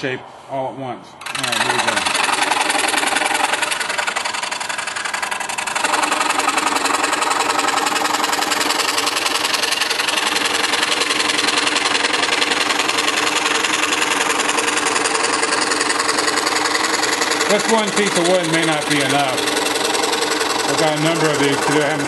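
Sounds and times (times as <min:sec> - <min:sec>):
scroll saw cutting wood: 0:01.2 - 0:22.0.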